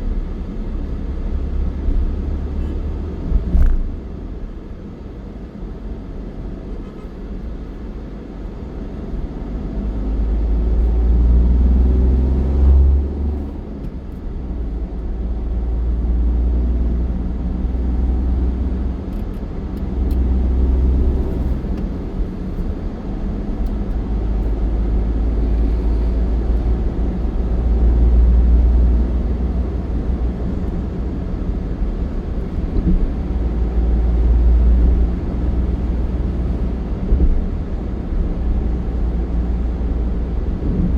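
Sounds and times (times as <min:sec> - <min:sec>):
road vehicle rumble: 0:00.0 - 0:40.9.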